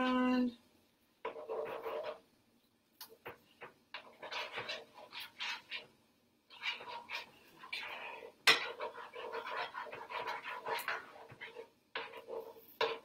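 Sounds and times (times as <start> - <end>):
spatula scraping a skillet: 1.2 - 2.2, 3.2 - 13.0.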